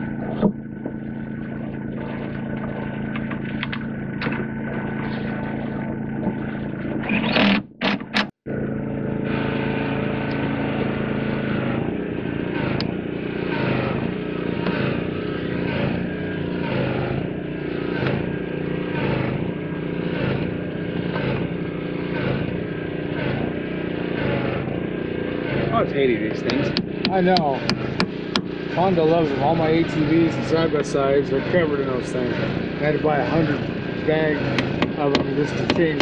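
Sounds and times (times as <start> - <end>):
engine running with surges: 0.0 - 36.0.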